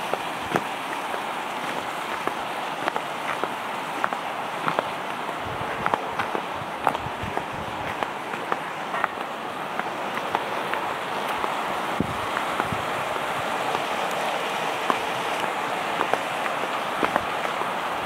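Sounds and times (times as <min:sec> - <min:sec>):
footsteps on dirt and concrete: 0:00.0 - 0:17.7
steady rushing hiss: 0:00.0 - 0:18.0.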